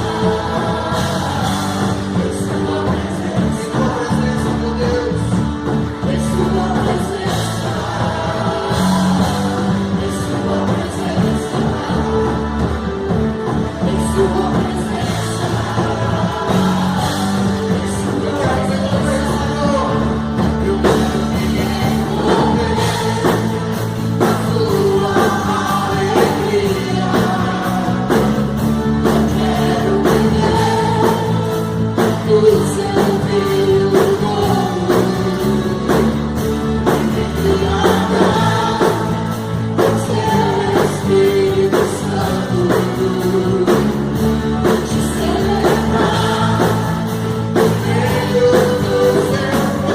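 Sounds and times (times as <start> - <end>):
bass: 0.0 - 49.9
drum kit steady beat: 0.0 - 49.9
keyboards: 0.0 - 49.9
people singing: 0.0 - 49.9.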